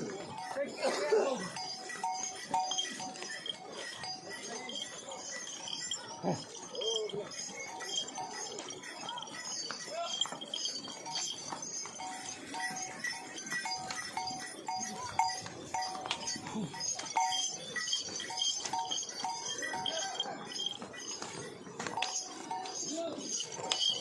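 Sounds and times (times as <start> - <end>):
background hubbub: 0.0 - 24.0
bells clanking: 0.0 - 24.0.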